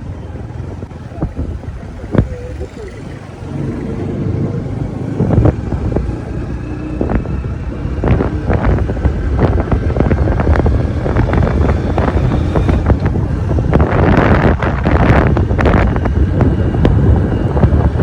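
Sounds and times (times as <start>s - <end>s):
vehicle rumble: 0.0s - 18.0s
wind buffeting microphone: 0.0s - 18.0s.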